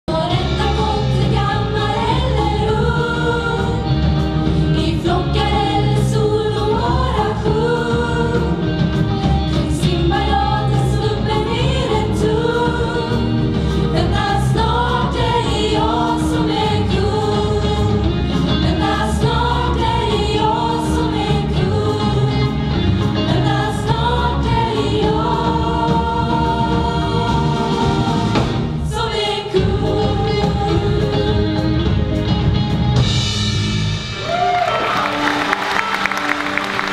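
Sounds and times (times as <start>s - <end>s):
youth choir singing: 0.1s - 32.0s
lead singers on microphones: 0.1s - 32.1s
live band with drums and bass: 0.1s - 36.9s.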